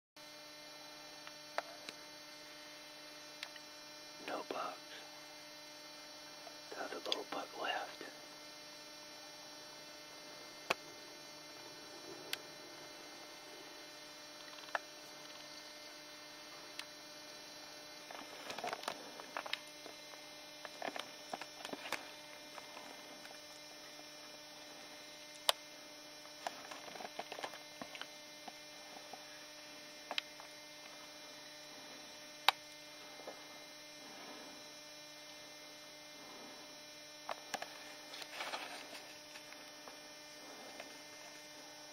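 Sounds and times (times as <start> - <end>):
electrical hum: 0.2 - 41.9
faint steady tones: 0.2 - 41.9.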